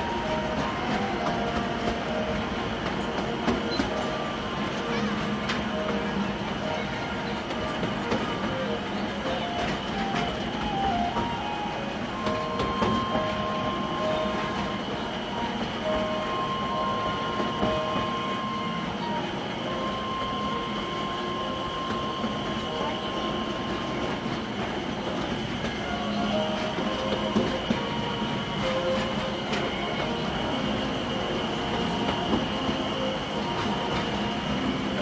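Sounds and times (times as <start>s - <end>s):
train rolling rumble: 0.0s - 35.0s.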